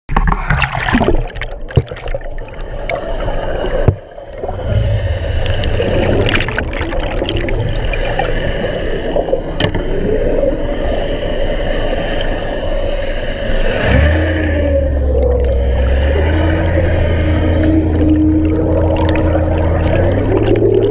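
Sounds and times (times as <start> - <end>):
gurgling water: 0.1 - 20.9
outboard motor underwater hum: 0.1 - 20.9.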